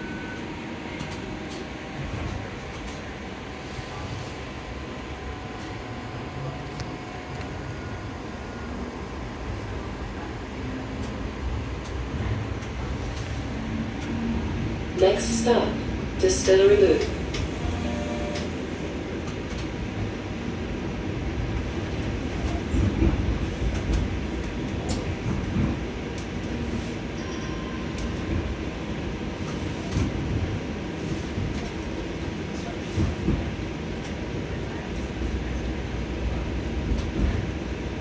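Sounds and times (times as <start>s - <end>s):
streetcar wheels rumbling: 0.0s - 38.0s.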